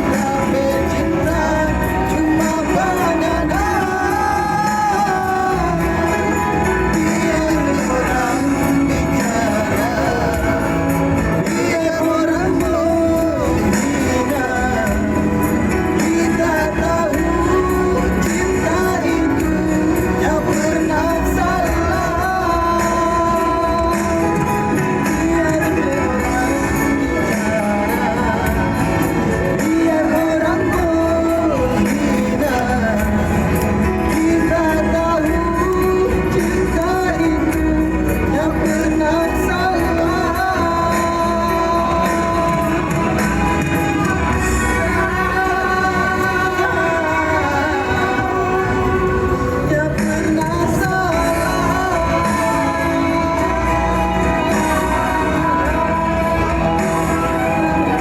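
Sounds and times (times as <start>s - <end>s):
instrumental backing music: 0.0s - 58.0s
person singing: 0.0s - 58.0s
pop band with steady beat: 0.0s - 58.0s.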